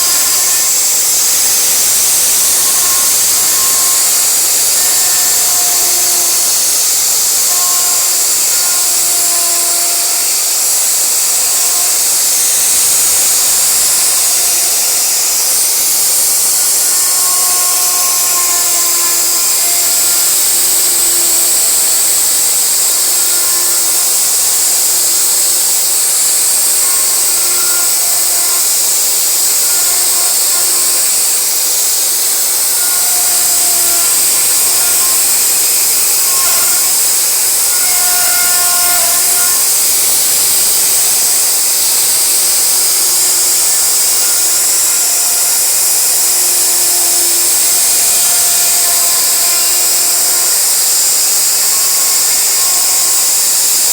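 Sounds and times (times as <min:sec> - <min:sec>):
wood router hissing: 0:00.0 - 0:53.9.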